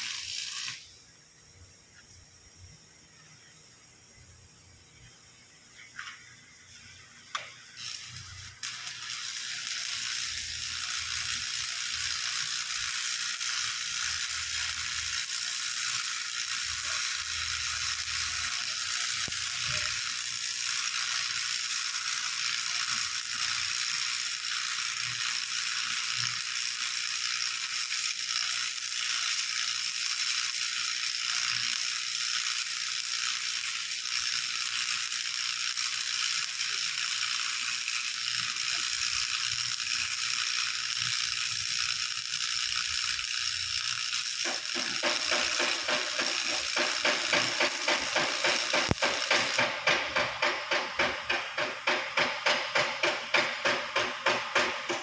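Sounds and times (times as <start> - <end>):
small machine clattering and hissing: 0.0 - 55.0.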